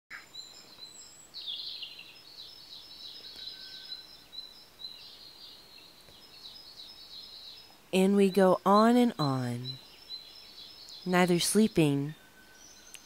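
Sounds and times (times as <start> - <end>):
birds chirping and twittering: 0.1 - 13.0.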